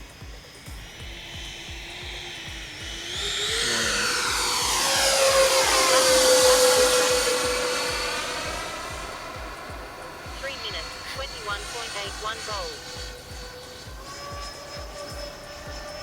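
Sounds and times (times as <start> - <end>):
background music beat: 0.0 - 16.0
electric ducted fans whining: 0.0 - 16.0.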